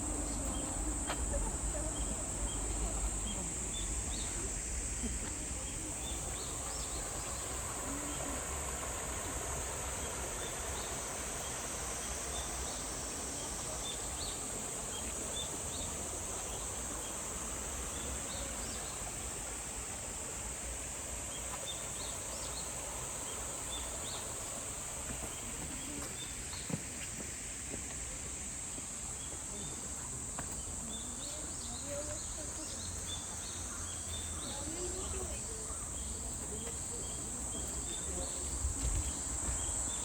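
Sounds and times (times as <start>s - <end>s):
background hiss: 0.0s - 40.0s
insects droning: 0.0s - 40.0s.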